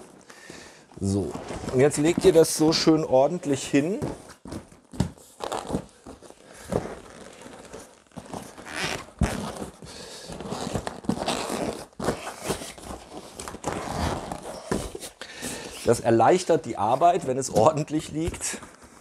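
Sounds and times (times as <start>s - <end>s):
vinyl rustling and crinkling: 0.9s - 19.0s.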